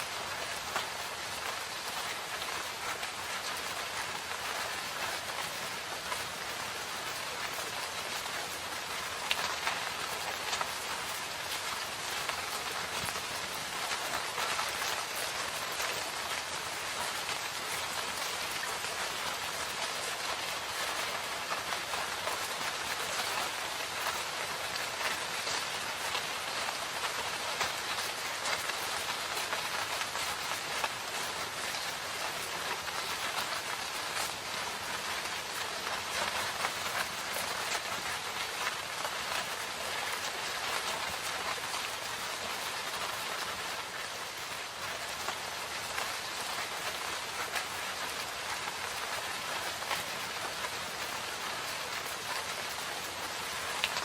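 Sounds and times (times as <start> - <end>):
steady rain in a forest: 0.0 - 54.0.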